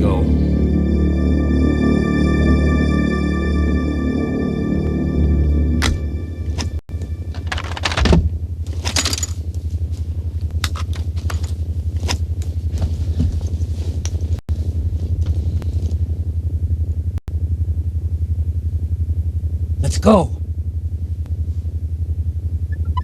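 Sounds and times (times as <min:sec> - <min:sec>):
low rapidly pulsing hum: 0:00.0 - 0:23.0.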